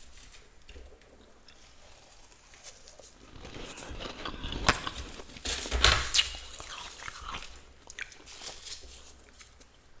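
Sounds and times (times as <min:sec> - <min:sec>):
frost crunching and crackling: 0:00.0 - 0:09.9.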